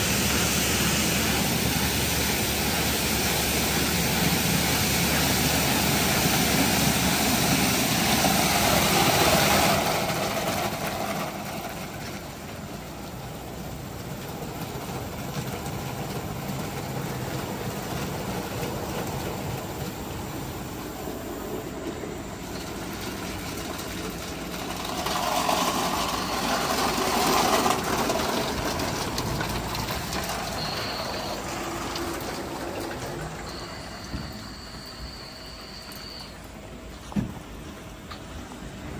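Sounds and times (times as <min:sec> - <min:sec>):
car wash spraying water: 0:00.0 - 0:38.9.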